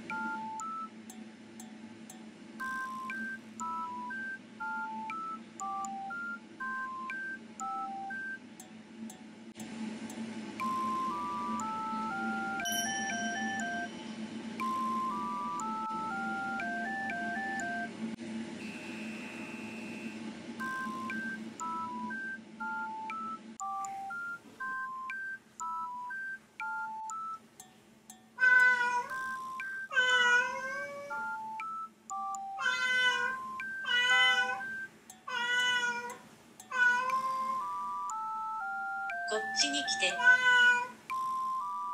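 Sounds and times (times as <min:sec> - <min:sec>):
light plinking background music: 0:00.0 - 0:17.9, 0:20.6 - 0:41.9.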